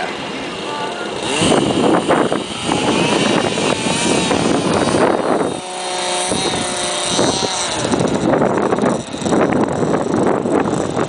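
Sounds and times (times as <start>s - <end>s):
loud rushing noise: 0.0s - 11.0s
model plane engine whine: 0.0s - 11.0s.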